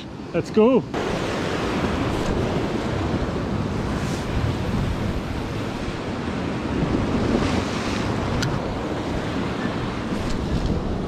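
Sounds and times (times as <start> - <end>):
sea waves against rocks: 0.9 - 11.0
wind noise on microphone: 1.0 - 11.0.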